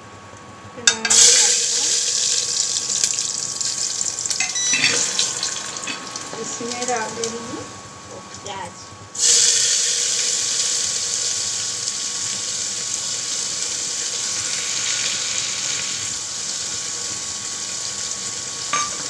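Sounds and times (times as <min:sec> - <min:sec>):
onions sizzling in oil: 0:01.0 - 0:07.4, 0:09.2 - 0:19.0.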